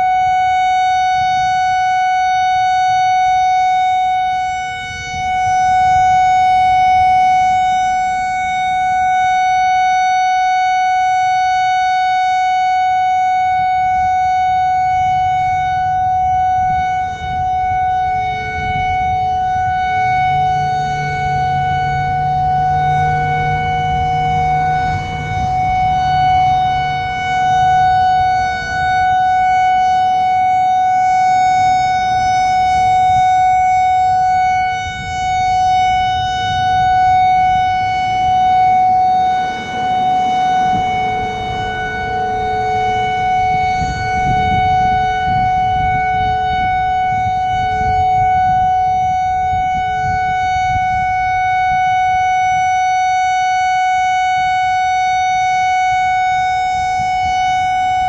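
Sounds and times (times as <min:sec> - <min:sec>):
outdoor warning siren: 0:00.0 - 0:58.0.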